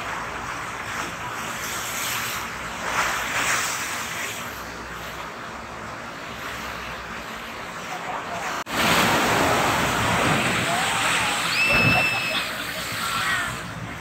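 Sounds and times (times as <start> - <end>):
ocean surf rushing: 0.0 - 14.0.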